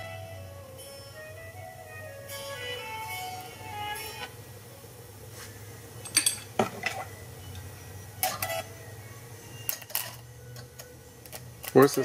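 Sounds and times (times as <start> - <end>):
low transformer hum: 0.0 - 12.0.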